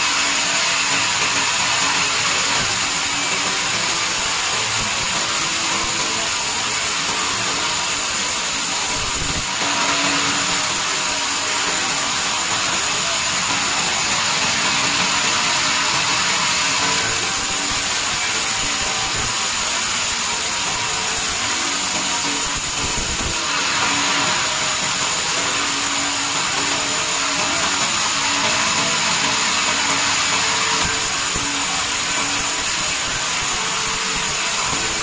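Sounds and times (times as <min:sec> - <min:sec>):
band saw cutting log: 0:00.0 - 0:35.0.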